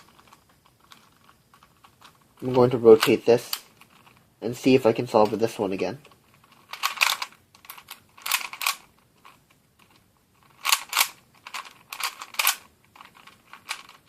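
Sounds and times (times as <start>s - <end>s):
plastic puzzle clicking: 0.0s - 4.2s, 5.2s - 14.0s.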